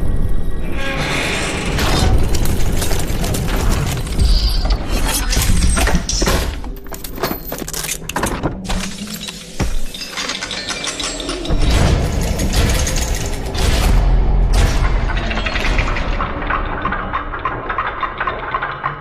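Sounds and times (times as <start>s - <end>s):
background music: 1.7s - 19.0s.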